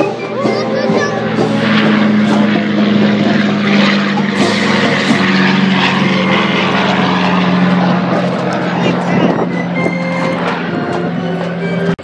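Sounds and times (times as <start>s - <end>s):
propeller airplane engines droning: 0.0s - 12.0s.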